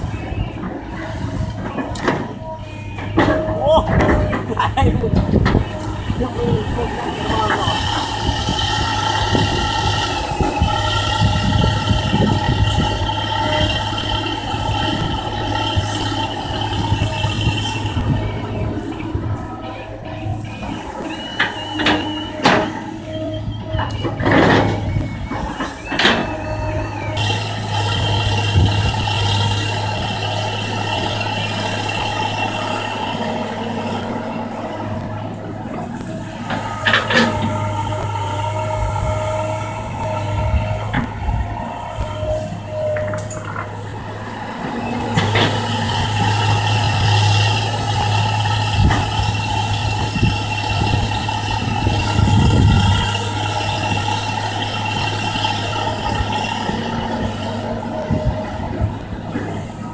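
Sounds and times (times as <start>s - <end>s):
diesel engine running: 0.0s - 59.9s
high whine: 0.0s - 59.9s.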